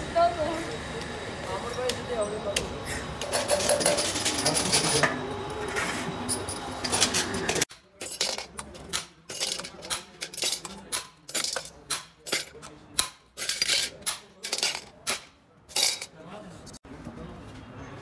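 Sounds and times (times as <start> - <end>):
workshop clatter: 0.0 - 18.0.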